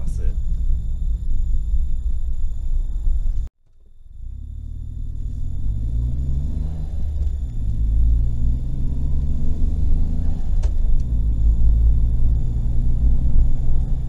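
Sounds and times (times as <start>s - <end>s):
car engine accelerating: 0.0s - 14.0s
road noise inside car: 0.0s - 14.0s.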